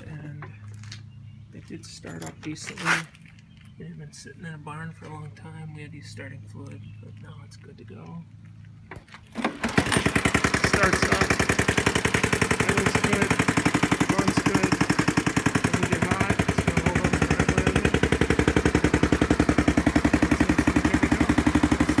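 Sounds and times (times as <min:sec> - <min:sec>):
three-wheeler engine idling: 0:00.0 - 0:22.0.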